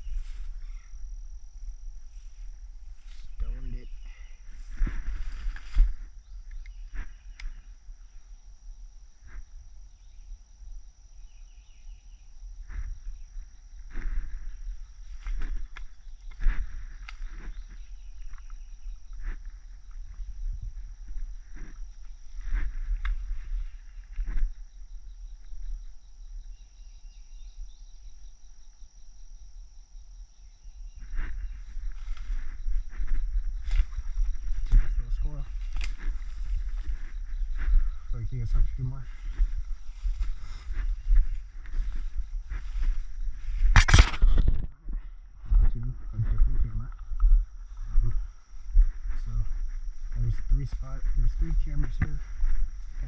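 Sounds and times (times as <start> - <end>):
wind rumble on microphone: 0.0 - 27.8, 30.2 - 53.0
high-pitched insect drone: 0.0 - 53.0.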